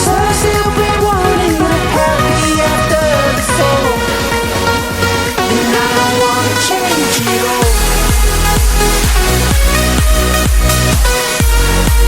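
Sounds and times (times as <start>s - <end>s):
electronic dance-pop music: 0.0s - 12.0s.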